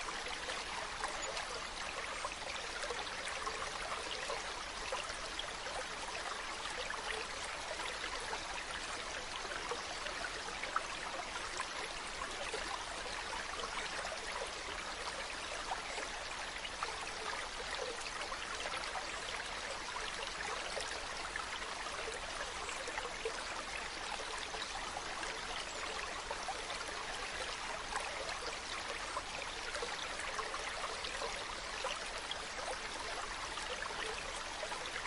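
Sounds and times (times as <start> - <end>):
stream running over rocks: 0.0 - 35.0.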